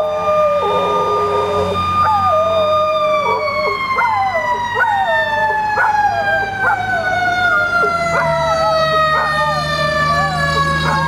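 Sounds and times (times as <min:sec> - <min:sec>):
dog howling and yelping: 0:00.0 - 0:11.0
fire truck siren: 0:00.0 - 0:11.0.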